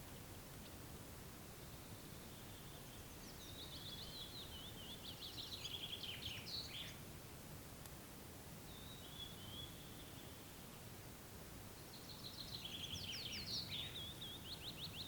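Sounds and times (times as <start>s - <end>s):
songbird singing: 0.0s - 7.1s, 8.6s - 10.9s, 11.6s - 15.0s
outdoor background noise: 0.0s - 15.0s.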